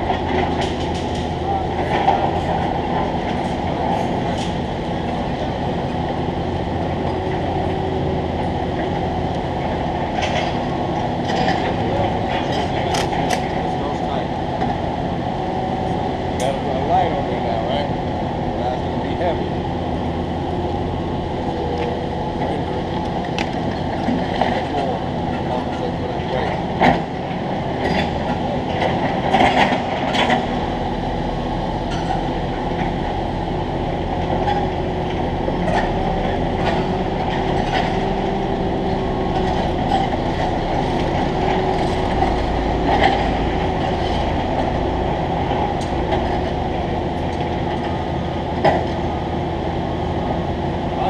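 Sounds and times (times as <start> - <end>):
heavy engine droning: 0.0 - 51.0.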